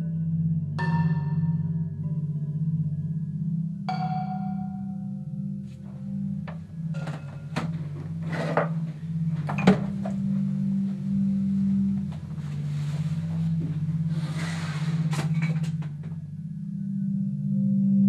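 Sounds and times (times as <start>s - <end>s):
low musical drone: 0.0s - 18.0s.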